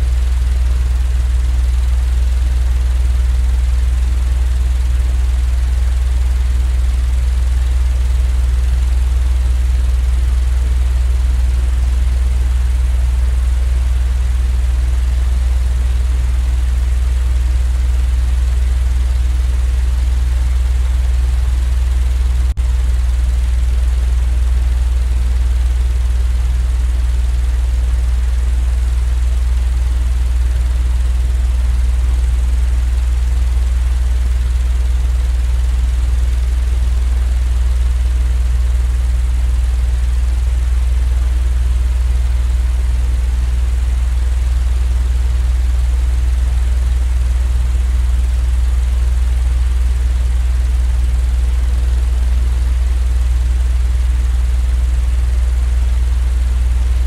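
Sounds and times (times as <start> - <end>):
low droning machine rumble: 0.0 - 57.0.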